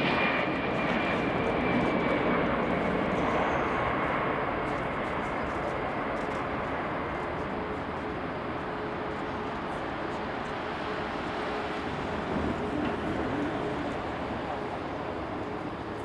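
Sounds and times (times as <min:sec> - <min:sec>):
jet engine rush: 0:00.0 - 0:16.0.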